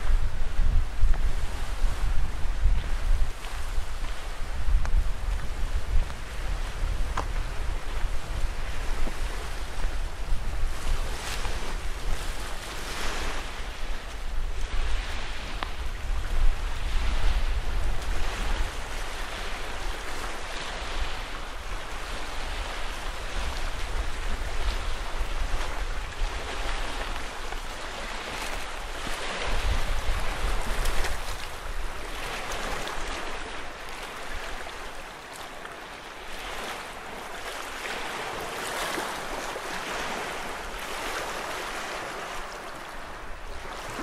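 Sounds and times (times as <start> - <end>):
small waves washing onto shore: 0.0 - 44.0
wind rumble on microphone: 0.0 - 44.0.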